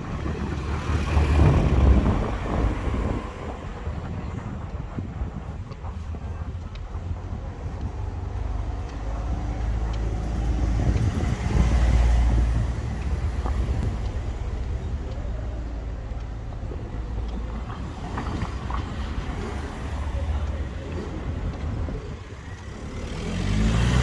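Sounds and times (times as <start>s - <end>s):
street background hum: 0.0s - 24.0s
vehicle passing rumble: 0.0s - 24.0s.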